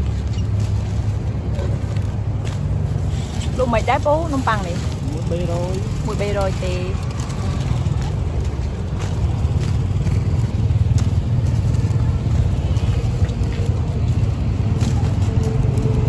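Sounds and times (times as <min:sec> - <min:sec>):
passing traffic rumble: 0:00.0 - 0:16.0.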